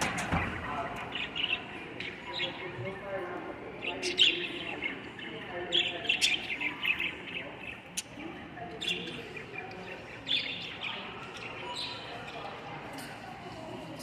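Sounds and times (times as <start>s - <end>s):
birds chirping and twittering: 0.0s - 13.2s.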